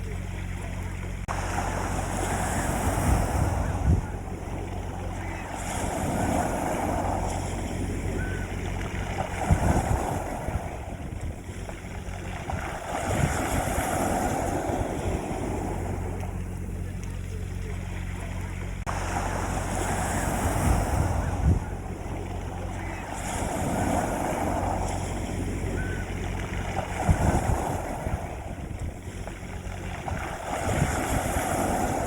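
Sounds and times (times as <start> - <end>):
low thumps of waves: 0.0 - 32.0
sea waves breaking on beach: 0.0 - 32.0
steady low rumble: 0.0 - 32.0.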